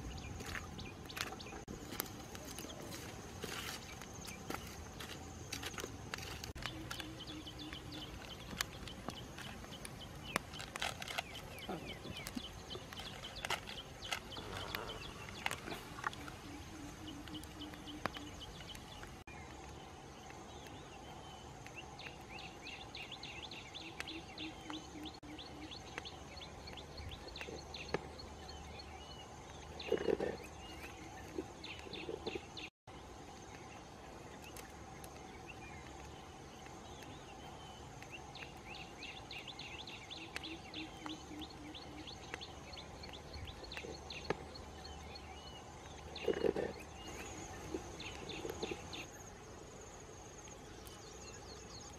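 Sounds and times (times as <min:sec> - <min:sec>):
insect drone: 0:00.0 - 0:51.9.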